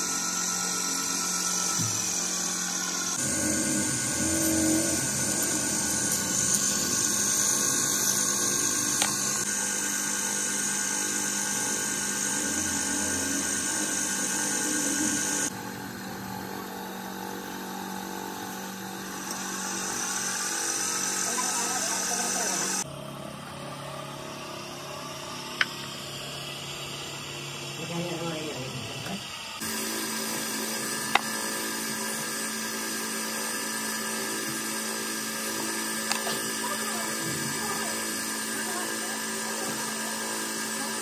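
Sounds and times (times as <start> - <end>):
wood lathe whining: 0.0 - 22.9, 23.6 - 41.0.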